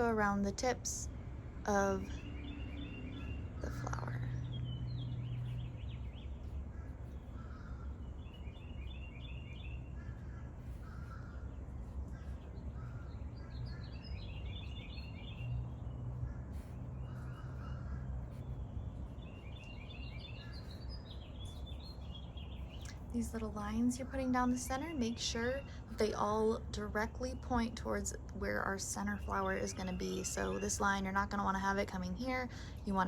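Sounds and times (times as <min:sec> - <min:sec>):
songbirds singing: 0:00.0 - 0:33.0
steady low hum: 0:00.0 - 0:33.0.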